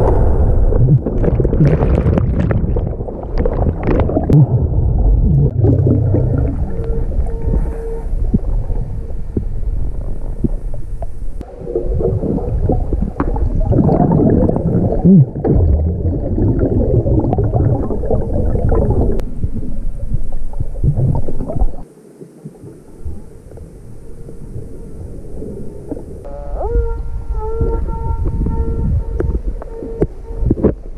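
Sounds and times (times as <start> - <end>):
underwater rumbling and gurgling: 0.0 - 30.9.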